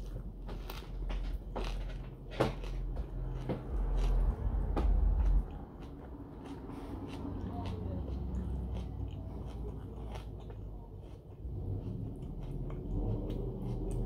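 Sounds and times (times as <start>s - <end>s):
crunchy biting and chewing: 0.0s - 14.0s
low rumble: 0.0s - 14.0s.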